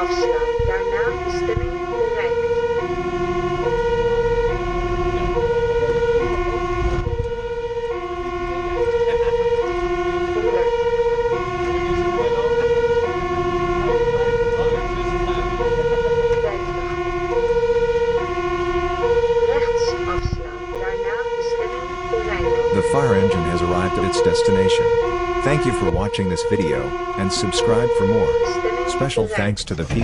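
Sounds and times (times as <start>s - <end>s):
truck engine and tyres rumbling: 0.0s - 30.0s
two-tone fire engine siren: 0.0s - 30.0s.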